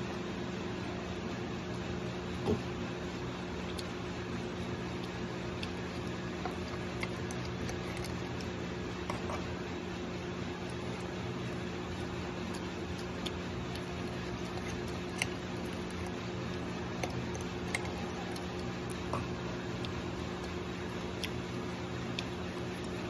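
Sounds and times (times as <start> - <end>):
low machine hum: 0.0 - 23.0
soft wet chewing: 0.1 - 23.0.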